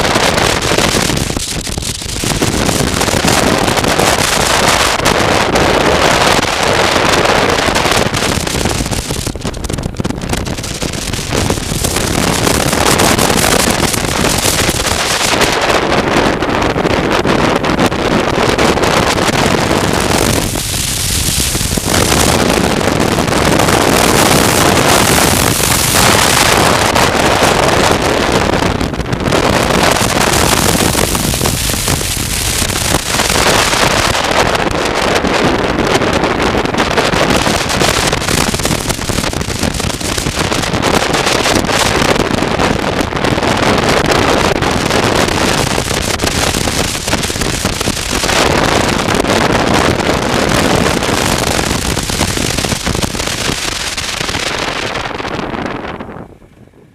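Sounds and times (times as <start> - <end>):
motorcycle running noise: 0.0 - 56.9
wind buffeting on microphone: 0.0 - 56.9.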